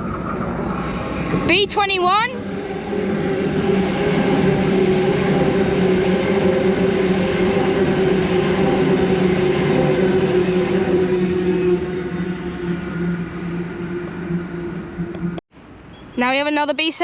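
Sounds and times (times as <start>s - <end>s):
electric train passing: 0.0s - 15.9s.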